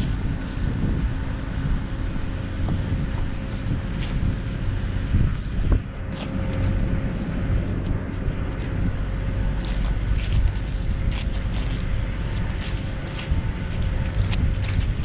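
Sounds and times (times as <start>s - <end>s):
footsteps: 0.0s - 15.0s
rustle of grass and dry leaves: 0.0s - 15.0s
wind buffeting microphone: 0.0s - 15.0s.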